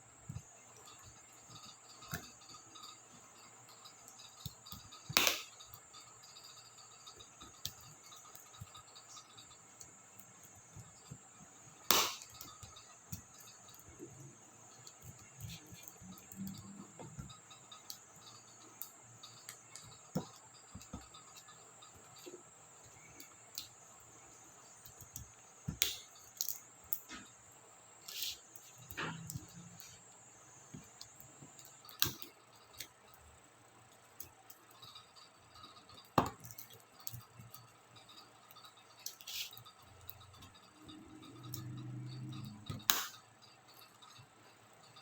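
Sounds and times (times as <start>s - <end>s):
faint high-pitched whine: 0.0s - 45.0s.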